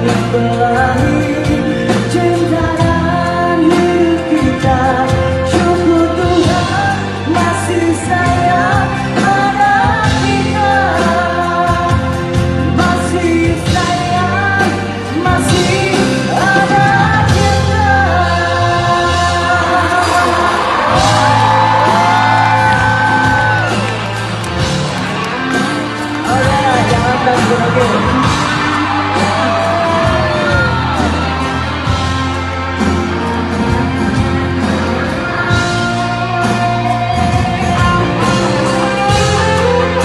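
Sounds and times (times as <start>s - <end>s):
person singing lead vocal: 0.0s - 24.2s, 25.2s - 40.0s
live rock band playing: 0.0s - 40.0s.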